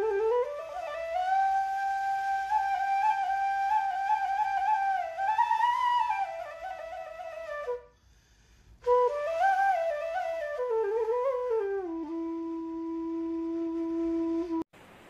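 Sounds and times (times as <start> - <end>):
solo flute melody: 0.0 - 8.0, 8.8 - 14.7.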